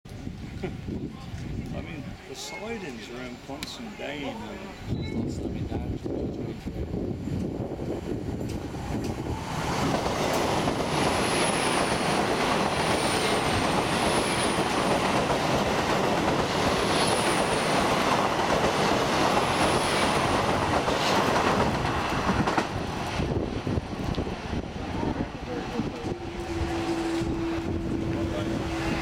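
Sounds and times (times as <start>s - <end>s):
train wheels rushing on rail: 0.1s - 29.0s.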